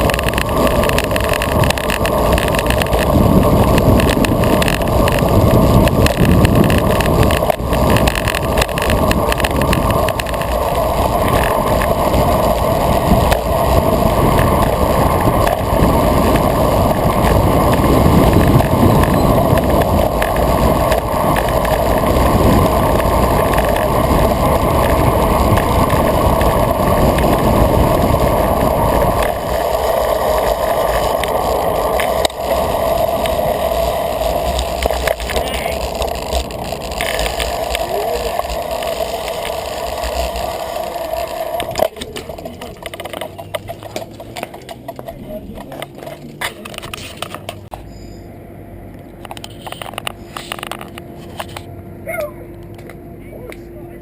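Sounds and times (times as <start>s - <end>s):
wind rush: 0.0s - 45.7s
bicycle tyre noise: 0.0s - 48.4s, 49.0s - 53.5s.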